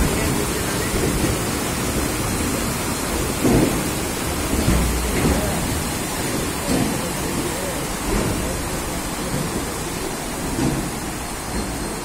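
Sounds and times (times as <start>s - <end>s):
floodwater churning and splashing: 0.0s - 12.0s
train rolling slowly: 0.0s - 12.0s.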